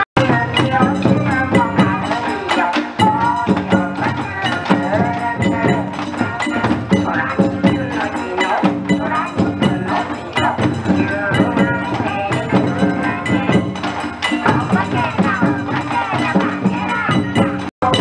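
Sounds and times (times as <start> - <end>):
taiko drums steady beat: 0.2 - 18.0.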